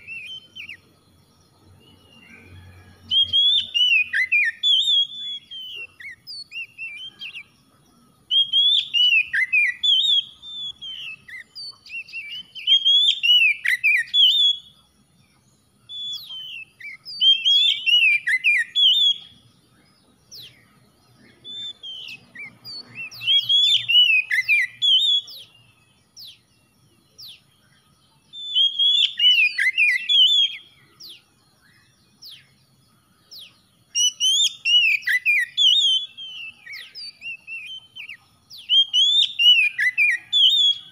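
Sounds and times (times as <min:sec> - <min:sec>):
bird singing whistles and chatter: 0:00.0 - 0:40.9.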